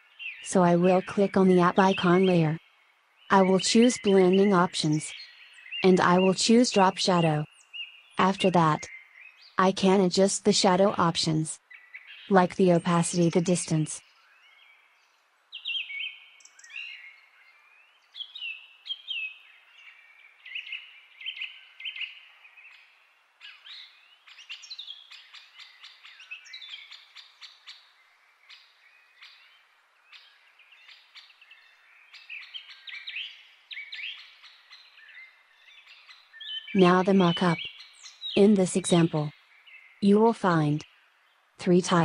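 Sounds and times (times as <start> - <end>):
birds chirping and singing: 0.0 - 2.6, 3.3 - 40.8.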